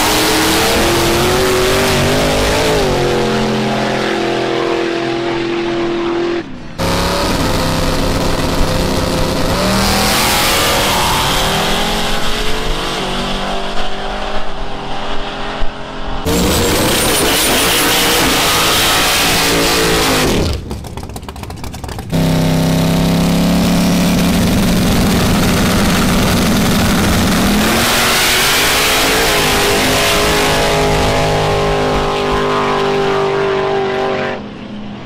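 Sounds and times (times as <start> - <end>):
race car engines revving high: 0.0 - 34.6.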